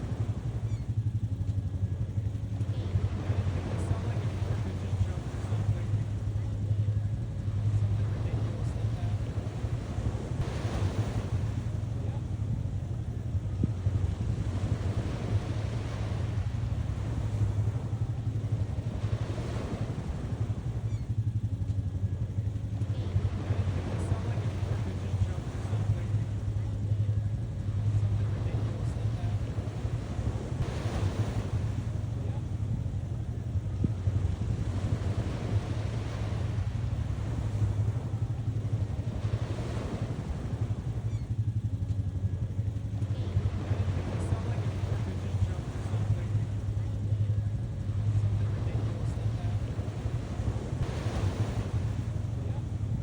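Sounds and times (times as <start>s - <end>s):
surf: 0.0s - 53.0s
wind buffeting microphone: 0.0s - 53.0s.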